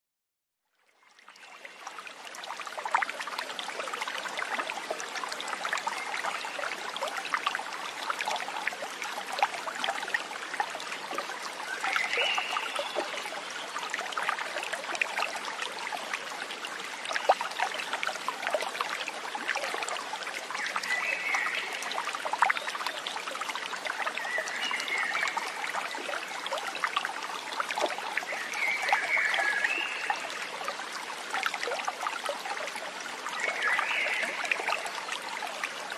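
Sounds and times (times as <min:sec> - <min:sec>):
stream water babbling: 0:00.6 - 0:35.9.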